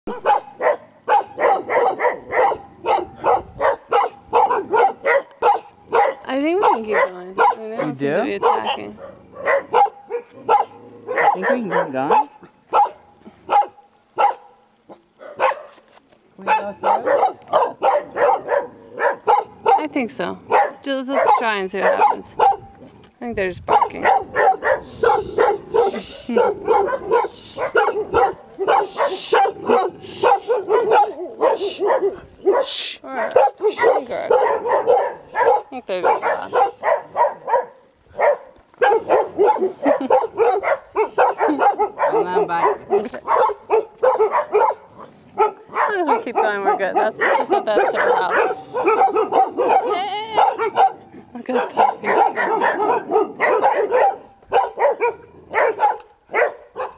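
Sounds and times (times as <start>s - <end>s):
dogs barking: 0.1s - 15.8s, 16.4s - 22.8s, 23.7s - 56.9s.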